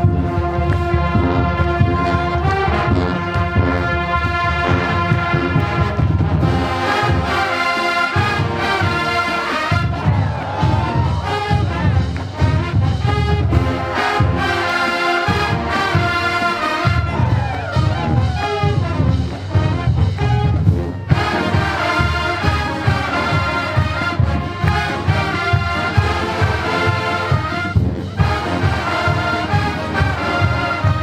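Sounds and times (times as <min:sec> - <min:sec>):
drumline beat: 0:00.0 - 0:31.0
marching band brass: 0:00.0 - 0:31.0
sliding brass notes: 0:00.0 - 0:31.0.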